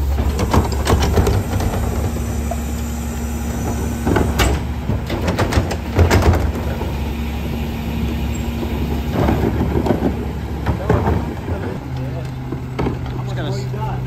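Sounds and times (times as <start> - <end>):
carts clattering against hopper: 0.0 - 13.9
garbage truck diesel rumble: 0.0 - 14.0.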